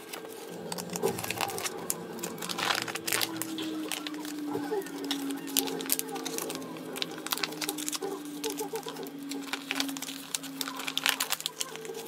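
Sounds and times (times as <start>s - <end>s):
plastic sheets rustling and crinkling: 0.0s - 12.0s.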